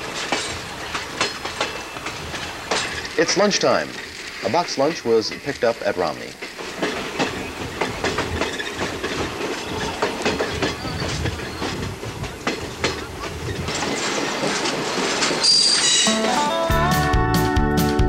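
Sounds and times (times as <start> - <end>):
wheels clacking over rail joints: 0.0 - 16.5
train running noise: 0.0 - 16.9.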